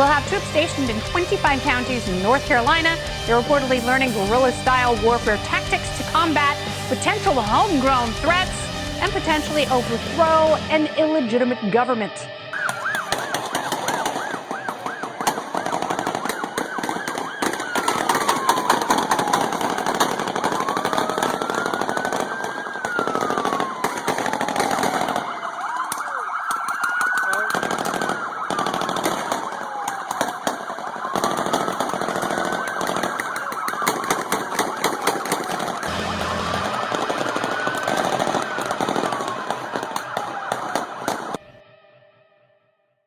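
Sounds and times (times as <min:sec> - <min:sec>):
wailing siren: 0:00.0 - 0:42.4.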